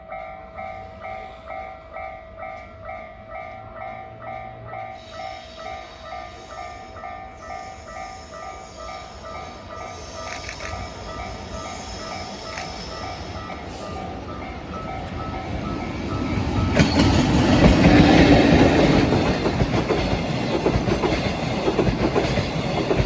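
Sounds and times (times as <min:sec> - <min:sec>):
approaching train rail noise: 0:00.0 - 0:23.0
level-crossing warning bell ringing: 0:00.0 - 0:23.0.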